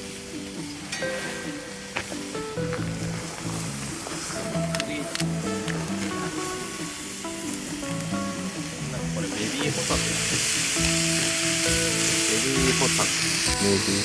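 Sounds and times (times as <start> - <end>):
background music: 0.0 - 14.0
scallops sizzling in a pan: 0.0 - 14.0.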